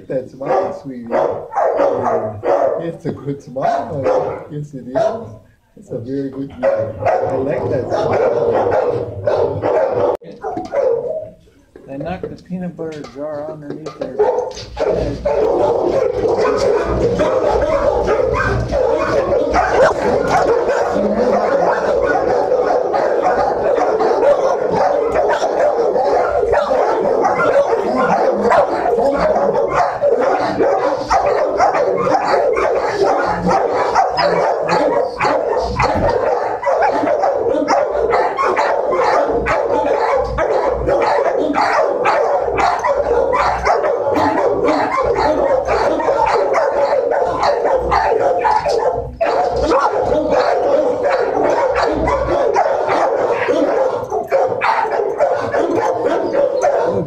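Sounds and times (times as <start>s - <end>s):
many dogs barking: 0.0s - 11.5s, 12.9s - 57.0s.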